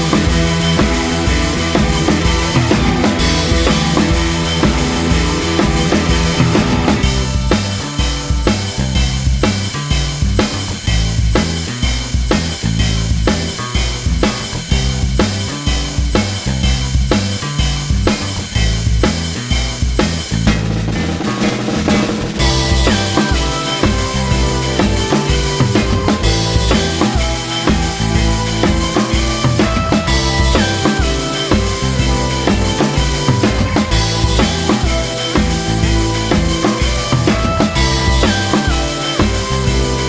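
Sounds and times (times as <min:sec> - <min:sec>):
drum kit and bass beat: 0:00.0 - 0:40.0.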